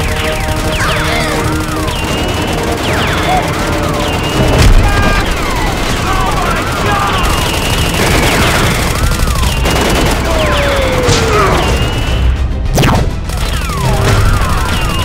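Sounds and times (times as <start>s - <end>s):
action background music: 0.0s - 15.0s
rapid gunfire: 0.0s - 15.0s.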